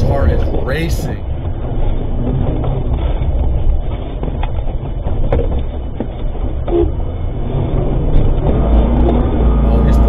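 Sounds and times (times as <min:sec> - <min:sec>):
faint knocks and blips: 0:00.0 - 0:09.6
engine and road rumble: 0:00.0 - 0:10.0.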